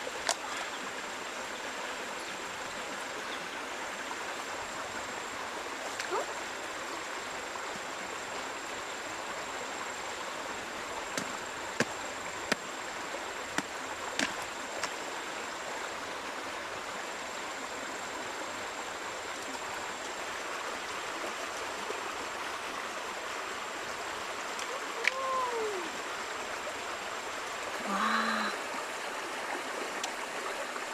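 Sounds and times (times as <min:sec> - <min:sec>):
river rushing over rocks: 0:00.0 - 0:30.9.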